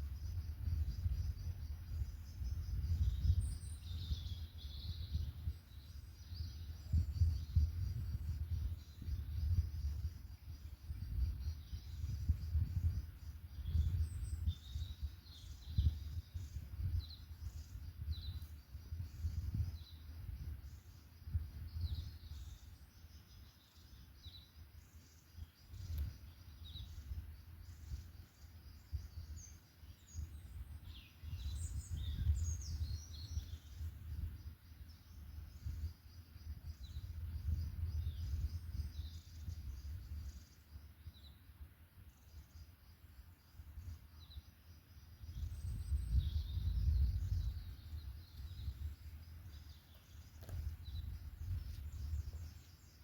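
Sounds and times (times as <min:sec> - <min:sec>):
songbirds chirping and singing: 0:00.1 - 0:41.5, 0:45.2 - 0:53.0.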